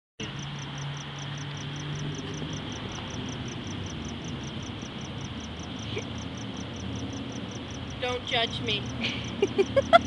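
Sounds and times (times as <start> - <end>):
crickets chirping: 0.2 - 10.0
low steady background hum: 0.2 - 10.0.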